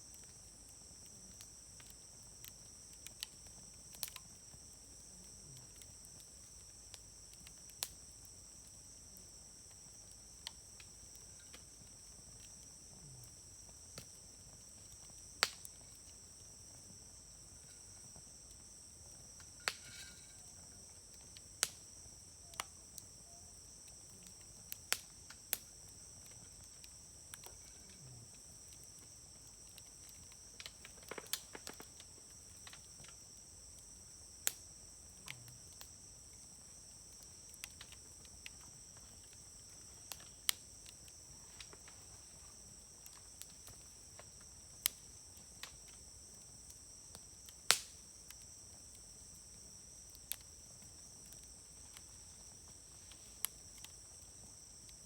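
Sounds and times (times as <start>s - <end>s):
campfire crackling and popping: 0.0s - 55.0s
insects chirring: 0.0s - 55.0s.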